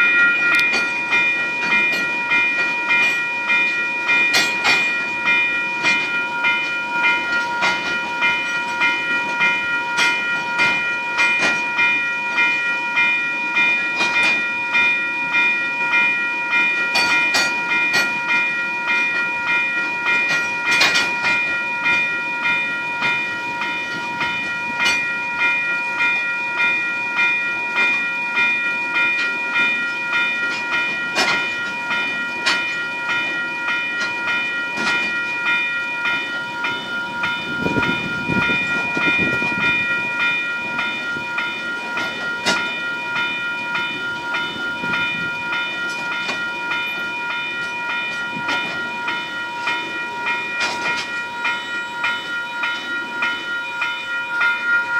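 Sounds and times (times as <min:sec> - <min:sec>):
level crossing bell ringing: 0:00.0 - 0:54.9
train wagons rumbling past: 0:00.0 - 0:54.9.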